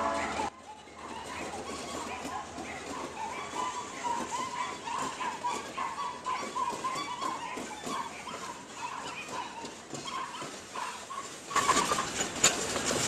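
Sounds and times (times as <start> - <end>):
freight train wheels clacking: 0.0 - 13.0.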